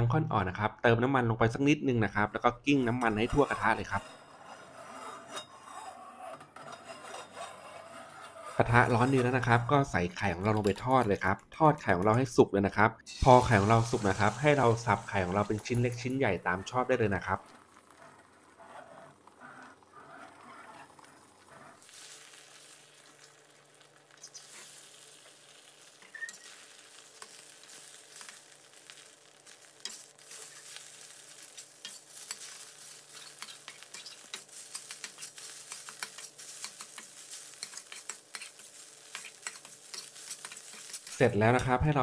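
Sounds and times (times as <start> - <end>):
eggs sizzling in hot oil: 2.2 - 12.4, 13.0 - 42.0
metal spatula scraping a wok: 2.8 - 9.7, 13.1 - 16.7, 17.9 - 41.9.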